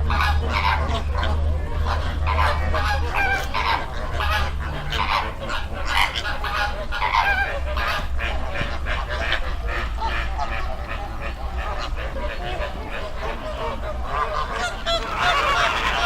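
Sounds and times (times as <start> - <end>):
flamingos honking: 0.0 - 16.0
steady low rumble: 0.0 - 16.0.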